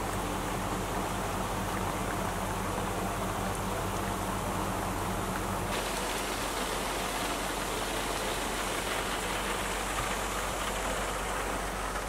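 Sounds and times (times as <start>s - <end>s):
rain on a camper roof: 0.0s - 12.0s.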